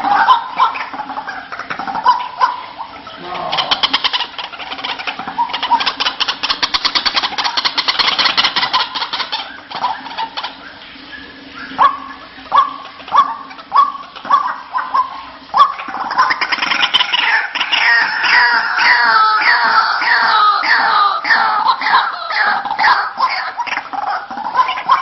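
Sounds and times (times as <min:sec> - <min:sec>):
waterhen harsh calls: 0:00.0 - 0:25.0.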